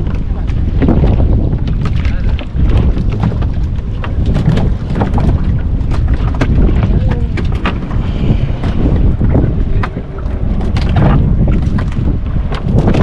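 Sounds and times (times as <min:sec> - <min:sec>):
water splashes: 0:00.0 - 0:13.0
wind buffeting microphone: 0:00.0 - 0:13.0.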